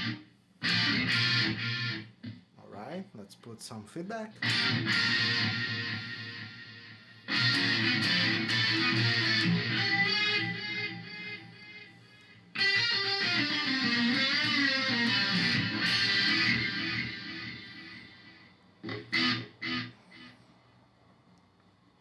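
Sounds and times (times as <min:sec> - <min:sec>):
electric guitar with delay: 0:00.0 - 0:02.4, 0:04.4 - 0:20.4.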